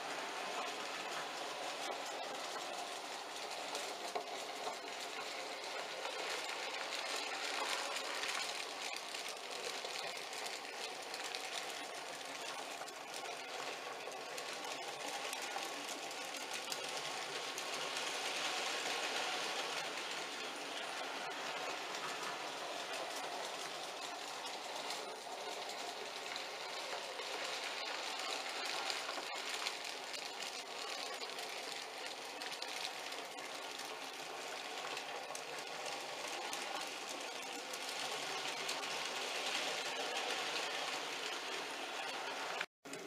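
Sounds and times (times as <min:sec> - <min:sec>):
model train motor whir: 0:00.0 - 0:43.0
wheels clicking over track: 0:00.0 - 0:43.0.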